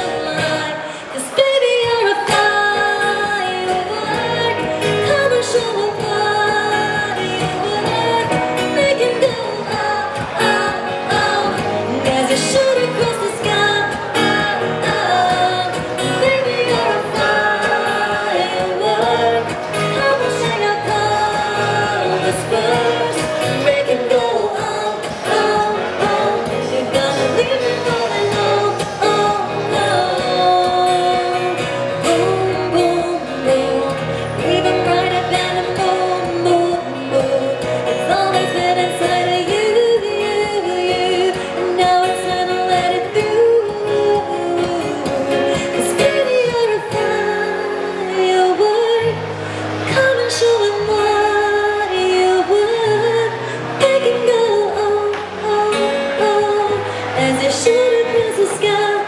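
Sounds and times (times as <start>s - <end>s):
person singing pop song: 0.0s - 59.0s.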